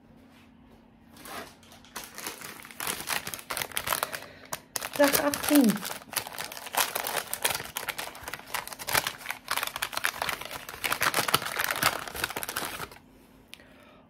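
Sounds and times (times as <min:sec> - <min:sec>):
paper packet crinkling: 0:01.2 - 0:13.0.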